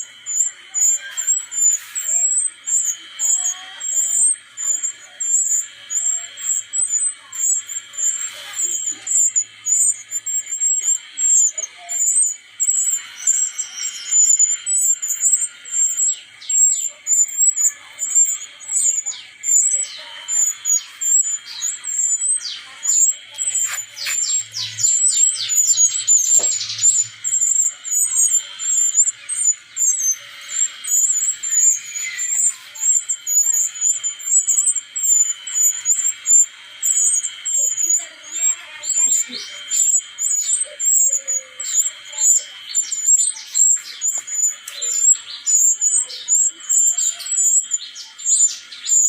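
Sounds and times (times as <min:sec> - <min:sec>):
songbird high chirps: 0:00.0 - 0:49.0.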